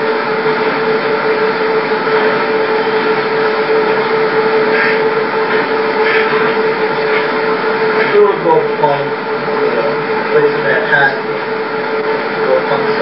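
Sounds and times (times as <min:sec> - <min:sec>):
constant humming tone: 0:00.0 - 0:13.0
loud tape hiss: 0:00.0 - 0:13.0.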